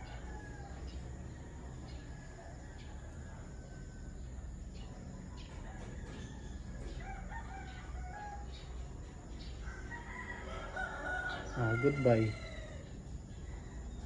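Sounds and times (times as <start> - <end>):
rooster crowing: 0.0 - 4.4, 5.6 - 8.8, 9.6 - 14.0.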